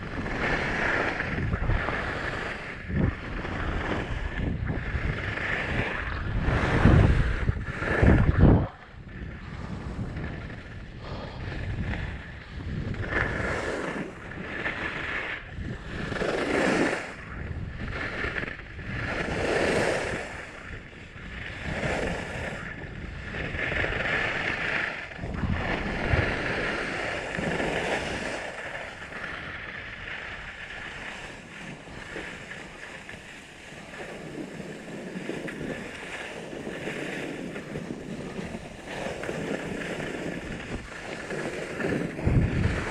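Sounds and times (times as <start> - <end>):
skis scraping over snow: 0.0 - 42.9
wind on microphone: 0.0 - 42.9.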